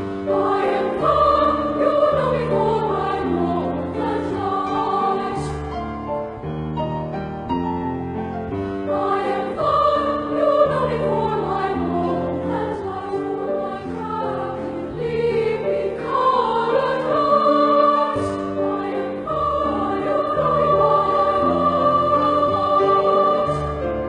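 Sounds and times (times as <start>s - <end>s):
children's choir singing: 0.0s - 5.8s, 8.9s - 24.0s.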